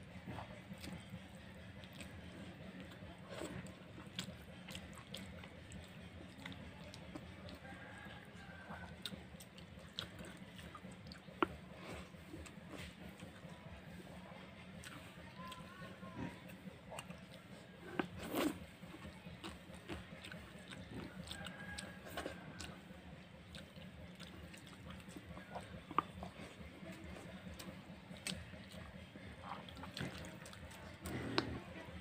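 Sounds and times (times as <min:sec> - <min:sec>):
wet chewing: 0:00.0 - 0:32.0.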